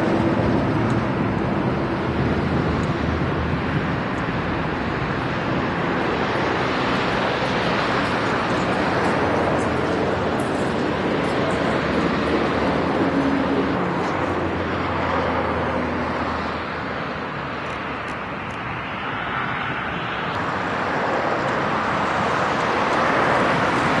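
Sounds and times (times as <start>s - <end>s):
distant helicopter drone: 0.0s - 24.0s.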